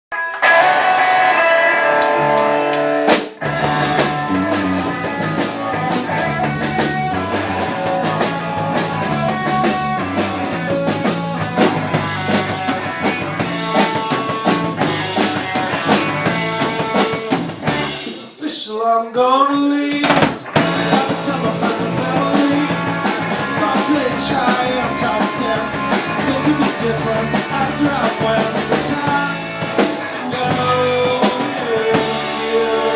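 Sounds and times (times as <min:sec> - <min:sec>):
held guitar chords: 0:00.1 - 0:18.1, 0:20.4 - 0:32.9
bass guitar: 0:00.1 - 0:18.3, 0:19.8 - 0:32.9
drum kit beat: 0:01.9 - 0:18.4, 0:19.9 - 0:32.9.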